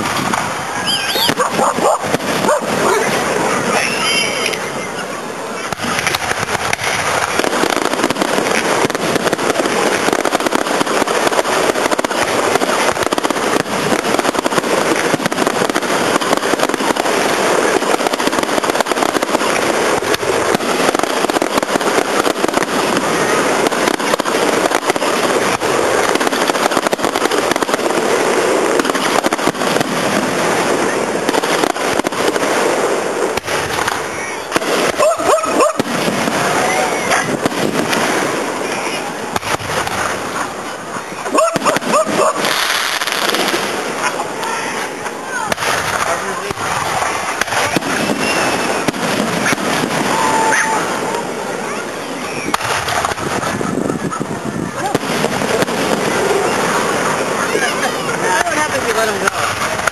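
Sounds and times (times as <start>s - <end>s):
fireworks crackling and banging: 0.0s - 59.9s
heavy fireworks bangs: 0.0s - 59.9s.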